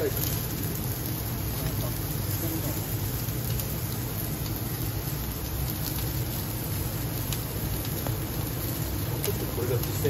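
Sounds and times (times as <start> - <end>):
gas grill roaring: 0.0 - 10.0
skewers sizzling: 0.0 - 10.0.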